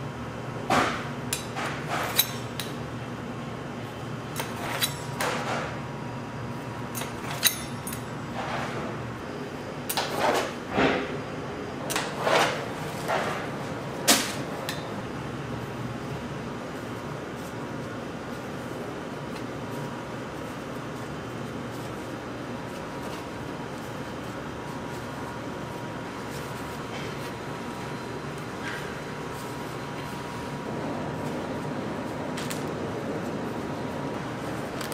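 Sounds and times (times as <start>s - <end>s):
machinery hum: 0.0s - 34.9s.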